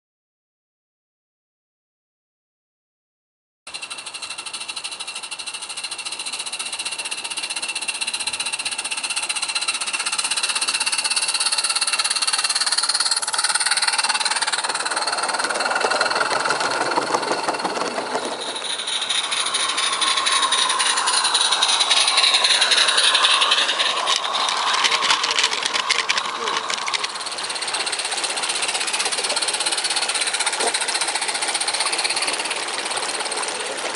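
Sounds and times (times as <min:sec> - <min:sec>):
steam locomotive chuffing: 0:03.7 - 0:33.9
wheels rattling on track: 0:03.7 - 0:33.9.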